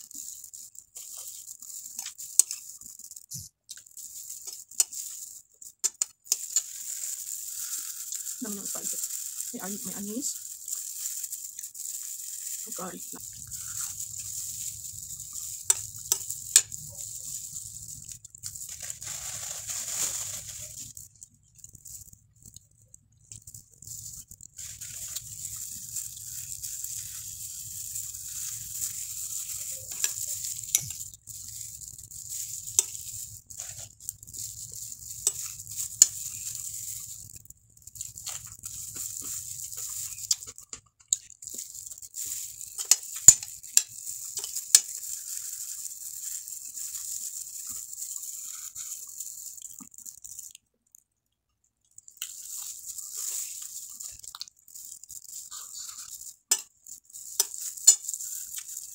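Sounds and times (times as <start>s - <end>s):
chewing: 0.0s - 9.5s, 10.2s - 19.0s, 20.8s - 51.0s, 51.8s - 58.9s.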